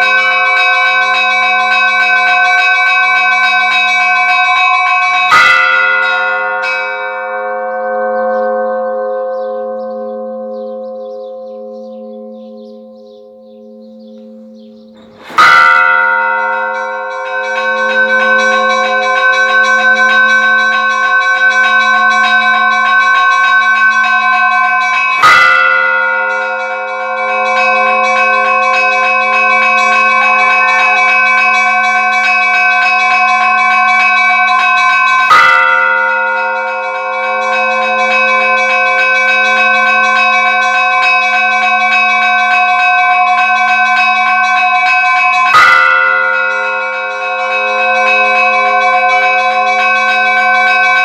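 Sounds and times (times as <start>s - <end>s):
church bell ringing: 0.0s - 51.0s.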